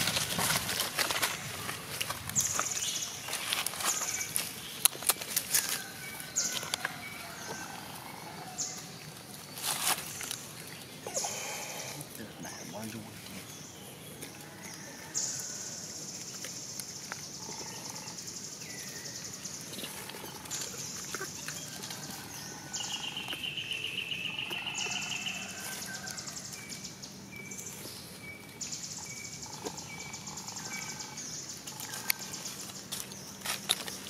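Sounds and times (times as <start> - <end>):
birds chirping and calling: 0.0 - 34.0.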